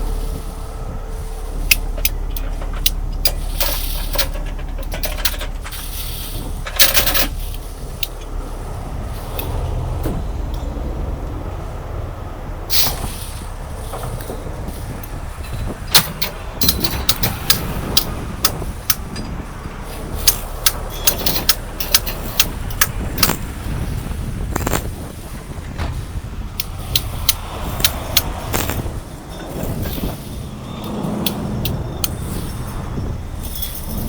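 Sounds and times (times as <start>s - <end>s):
heavy truck engines rumbling: 0.0s - 34.0s
metallic clicks and clanks: 1.2s - 10.8s, 12.7s - 34.0s.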